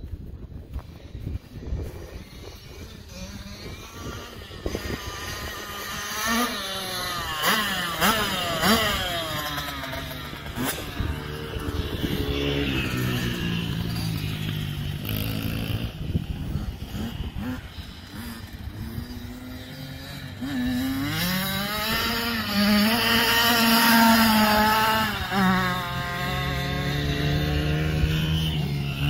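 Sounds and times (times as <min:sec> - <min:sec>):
dirt bike engines accelerating: 0:00.0 - 0:29.0.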